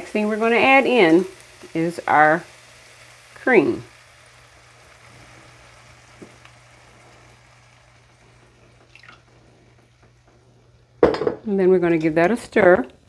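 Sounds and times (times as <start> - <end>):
low steady hum: 0.0 - 13.0
vegetables sizzling in skillet: 0.0 - 13.0.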